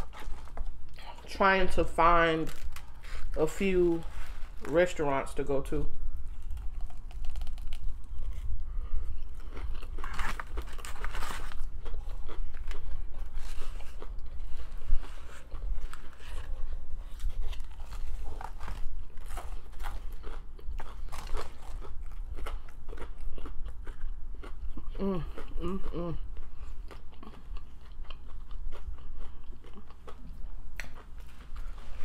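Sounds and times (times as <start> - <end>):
chewing crunchy fried chicken: 0.0 - 5.4, 6.2 - 32.0.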